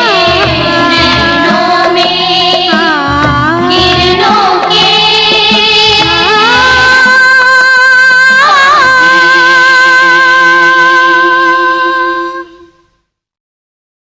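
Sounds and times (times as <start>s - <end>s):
soft musical accompaniment: 0.0s - 13.1s.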